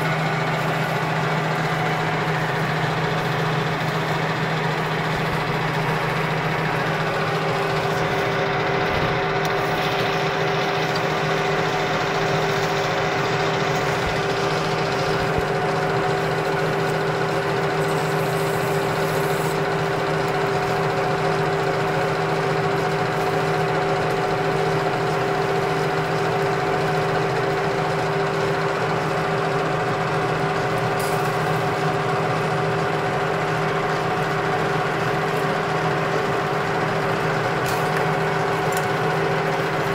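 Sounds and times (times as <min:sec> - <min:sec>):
metal lathe humming and whining: 0:00.0 - 0:39.9.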